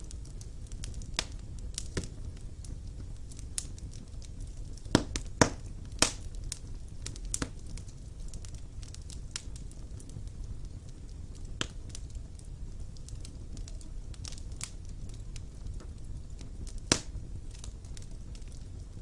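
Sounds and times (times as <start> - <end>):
fire burning in a fireplace: 0.0 - 19.0
fire crackling and popping: 0.0 - 19.0.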